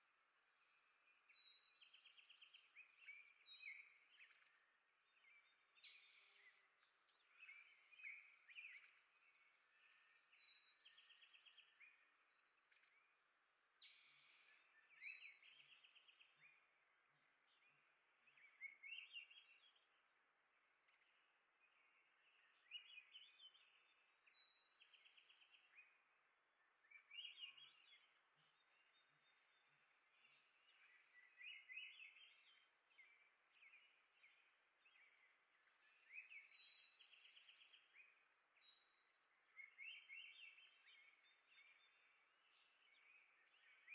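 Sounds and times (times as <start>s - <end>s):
soft outdoor background noise: 0.0s - 43.9s
songbirds chirping and twittering: 0.0s - 43.9s.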